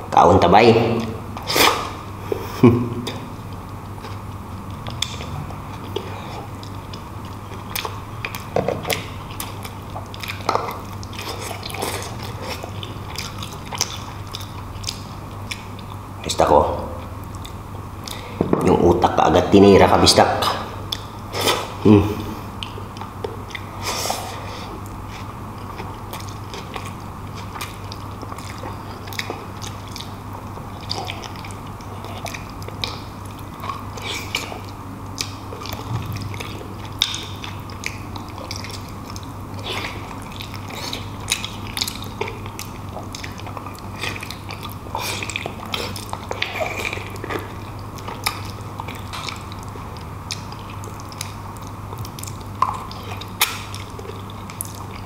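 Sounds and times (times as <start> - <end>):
steady low hum: 0.0 - 55.0
chewing and biting meat: 3.0 - 16.2, 22.6 - 55.0.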